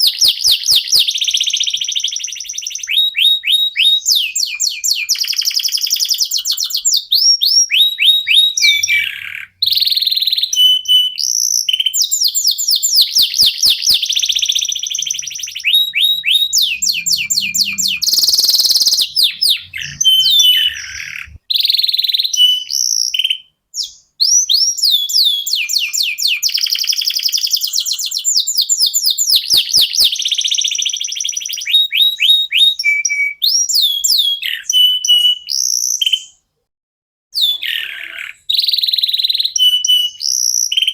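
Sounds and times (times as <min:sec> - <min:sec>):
canaries singing: 0:00.0 - 0:36.3, 0:37.4 - 0:40.9.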